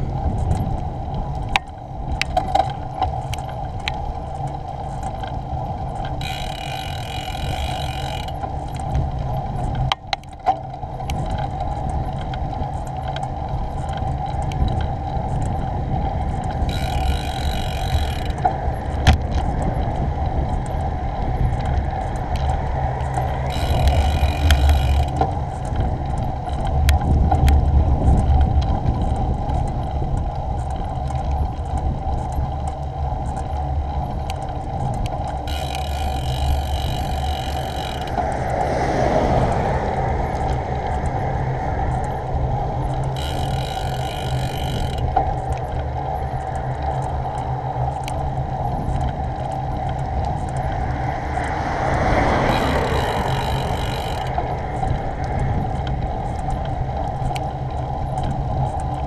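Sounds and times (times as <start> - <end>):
wind and tyre rumble: 0.0 - 59.0.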